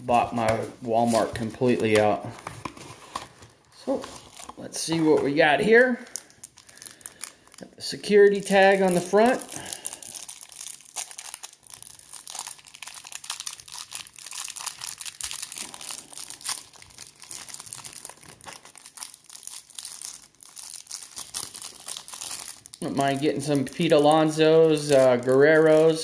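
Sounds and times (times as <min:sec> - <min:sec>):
plastic wrapper crinkling: 0:00.2 - 0:26.0.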